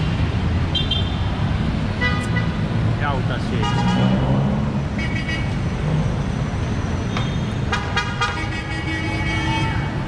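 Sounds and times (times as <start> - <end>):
traffic engines running: 0.0 - 10.0.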